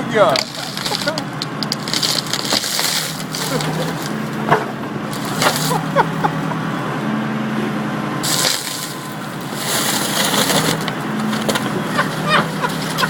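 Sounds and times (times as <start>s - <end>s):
excavator engine running: 0.0s - 13.0s
car body crunching and cracking: 0.2s - 6.5s, 8.2s - 13.0s.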